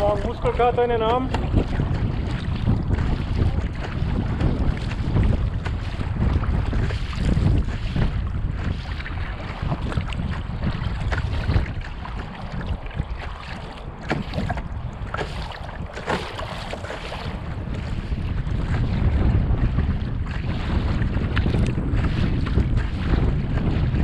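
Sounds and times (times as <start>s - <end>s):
paddle strokes splashing water: 0.0s - 24.0s
wind buffeting microphone: 0.0s - 24.0s.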